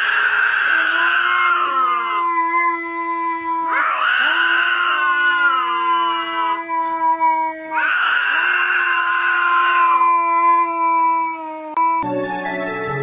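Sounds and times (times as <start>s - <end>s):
cats yowling: 0.0s - 12.0s.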